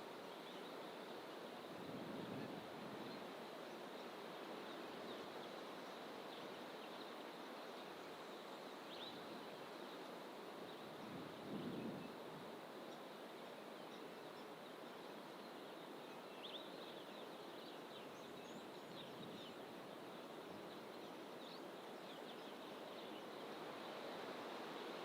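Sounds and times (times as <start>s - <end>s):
faint bird chirps and calls: 0.0s - 25.0s.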